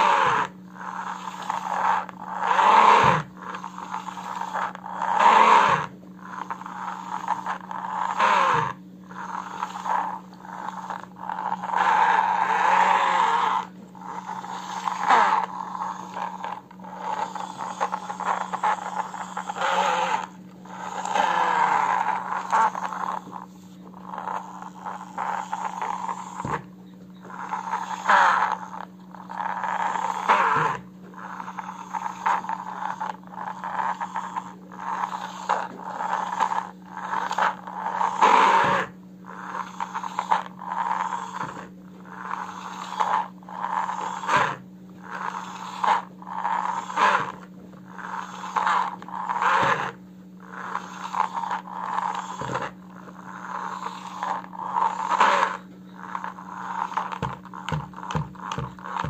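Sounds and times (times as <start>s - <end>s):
plastic toy scraping over rug: 0.0s - 59.0s.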